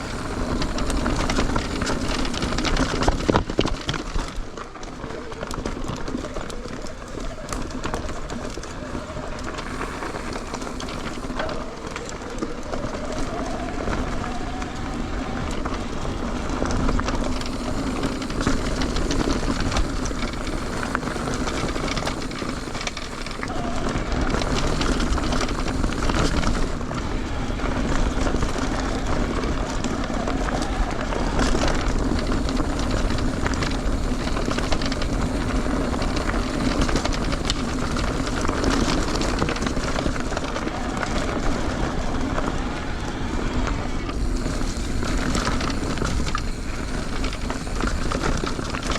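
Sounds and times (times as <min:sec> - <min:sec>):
bike rattling: 0:00.0 - 0:48.9
bike tyres crunching on dirt: 0:00.0 - 0:48.9
wind rumble on microphone: 0:00.0 - 0:48.9.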